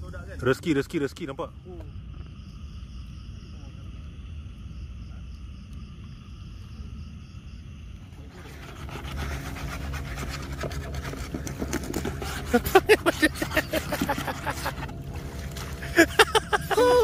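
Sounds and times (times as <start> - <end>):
insects chirping: 0.0 - 17.0
low steady rumble: 1.2 - 17.0.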